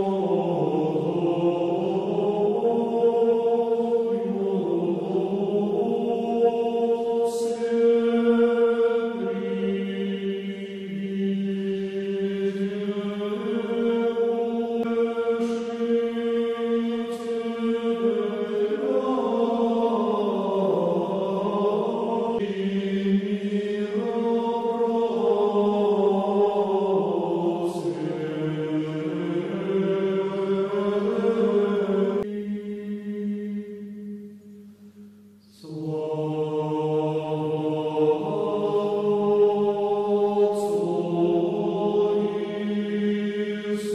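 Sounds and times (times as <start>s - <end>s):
choir chanting: 0.0s - 34.6s, 35.4s - 43.9s.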